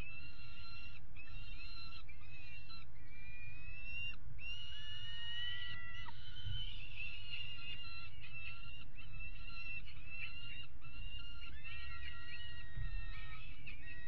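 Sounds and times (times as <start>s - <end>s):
falcon wailing calls: 0.0s - 14.0s
steady low hum: 0.0s - 14.0s.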